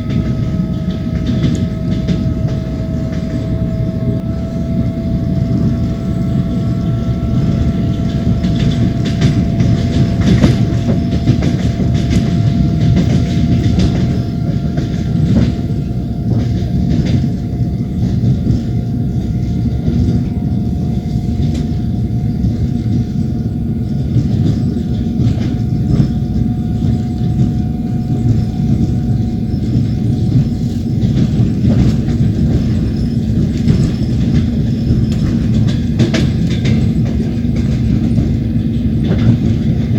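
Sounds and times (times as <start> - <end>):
train wheels rumbling on rails: 0.0 - 39.9
wheels clattering over rail joints: 0.0 - 39.9.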